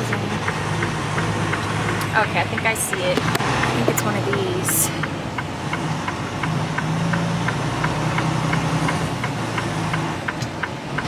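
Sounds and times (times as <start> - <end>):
steady light ticking: 0.0 - 11.0
truck diesel engine running: 0.0 - 11.0.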